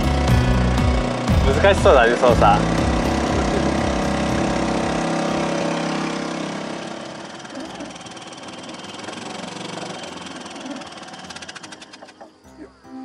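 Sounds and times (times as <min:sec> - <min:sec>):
outboard motor running: 0:00.0 - 0:12.4.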